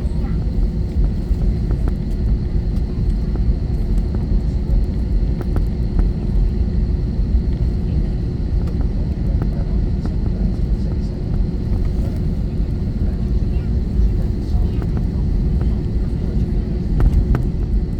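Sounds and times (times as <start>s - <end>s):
airplane cabin engine hum: 0.0s - 17.9s.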